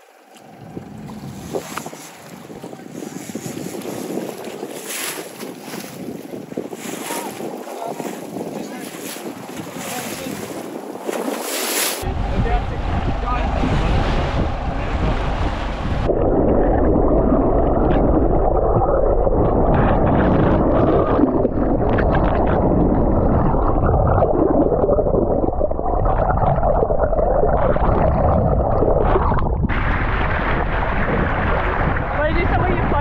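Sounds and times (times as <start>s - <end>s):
muffled underwater water rushing: 0.0s - 33.0s.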